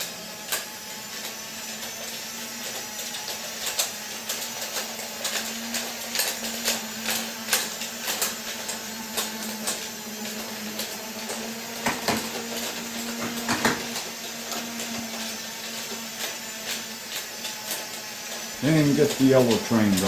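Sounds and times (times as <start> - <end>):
toy train motors humming: 0.0 - 20.0.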